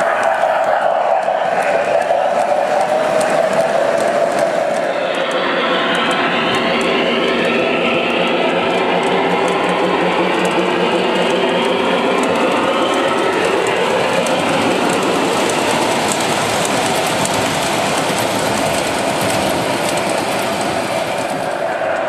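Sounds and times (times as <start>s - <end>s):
wheels clicking over rails: 0.0s - 22.0s
model train motor rumble and whine: 0.2s - 21.9s.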